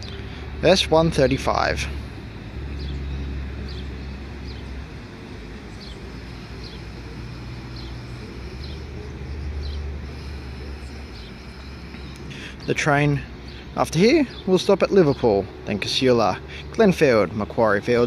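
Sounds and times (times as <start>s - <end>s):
electric train humming: 0.0s - 18.0s.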